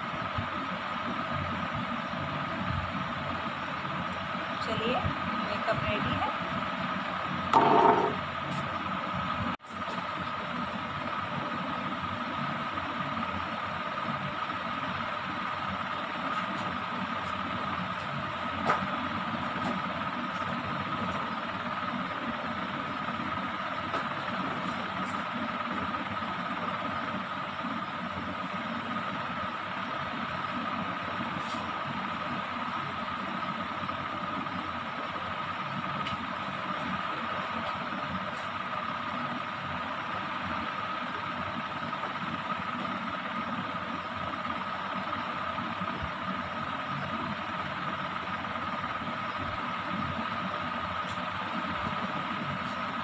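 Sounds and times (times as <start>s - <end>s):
mechanical hum with whine: 0.0s - 53.0s.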